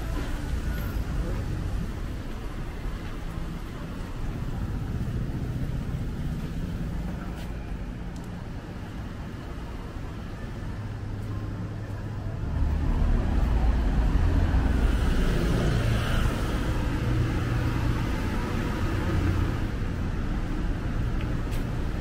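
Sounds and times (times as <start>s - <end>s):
road noise: 0.0s - 22.0s
vehicle engine rumble passing: 0.0s - 22.0s.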